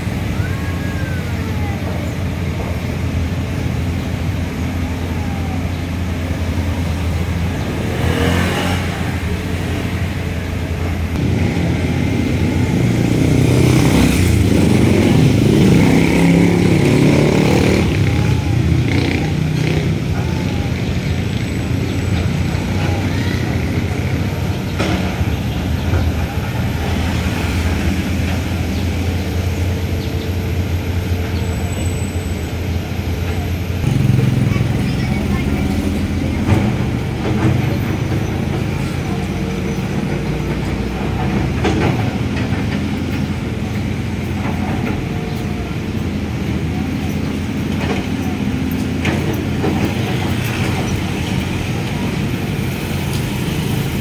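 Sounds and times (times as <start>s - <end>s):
motorcycle and car engines passing: 0.0s - 54.0s.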